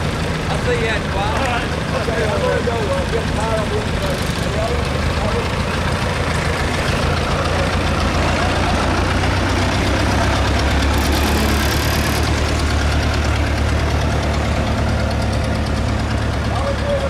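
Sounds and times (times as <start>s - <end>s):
truck engine driving past: 0.0s - 17.0s.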